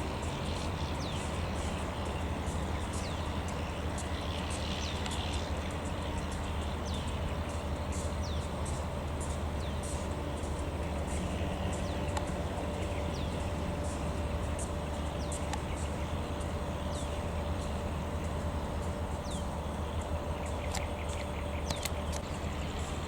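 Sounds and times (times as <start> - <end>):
diesel locomotive idling: 0.0 - 23.0
birds chirping: 0.1 - 23.0.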